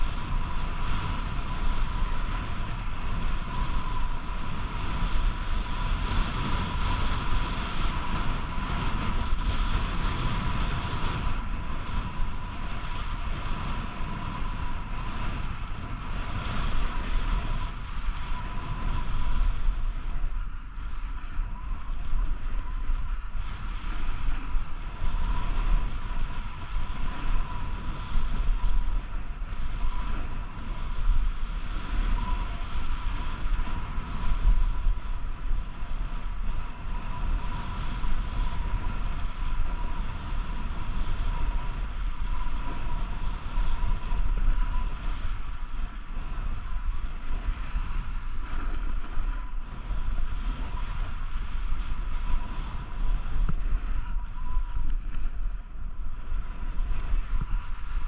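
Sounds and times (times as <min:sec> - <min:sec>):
snowboard sliding over snow: 0:00.0 - 0:58.0
wind rushing over microphone: 0:00.0 - 0:58.0
thin steady whistle: 0:10.3 - 0:58.0.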